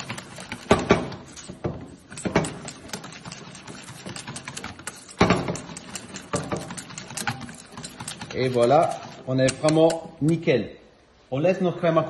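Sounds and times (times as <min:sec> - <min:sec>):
metal clatter: 0:00.0 - 0:09.9
whisk clicking in metal bowl: 0:00.0 - 0:10.4.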